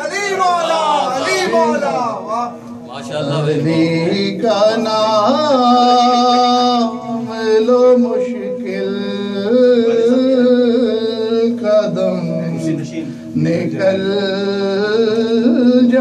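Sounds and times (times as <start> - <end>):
man chanting melodic verse: 0.0 - 16.0.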